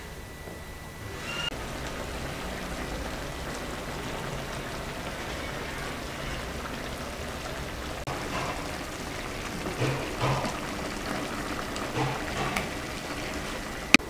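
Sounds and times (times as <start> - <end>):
broth simmering and sizzling: 1.1 - 14.0.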